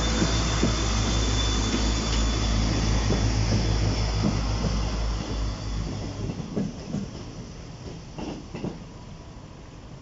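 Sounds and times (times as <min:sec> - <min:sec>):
wheels clacking on rail joints: 0:00.0 - 0:09.0
diesel train rumbling past: 0:00.0 - 0:10.0.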